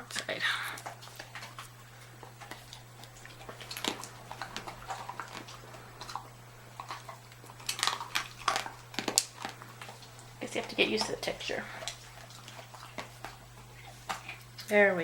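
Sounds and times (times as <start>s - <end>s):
dog chewing hard treat: 0.1s - 14.7s.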